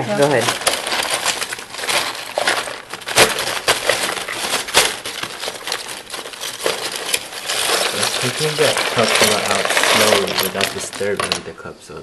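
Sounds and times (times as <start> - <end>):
ice and salt clattering: 0.0 - 11.6.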